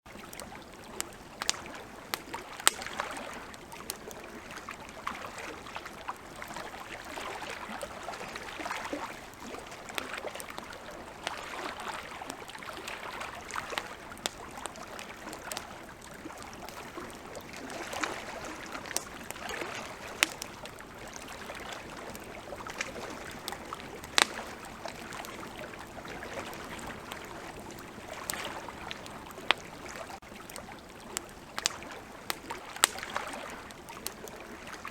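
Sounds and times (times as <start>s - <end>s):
campfire crackling and popping: 0.1s - 34.9s
river flowing: 0.1s - 34.9s.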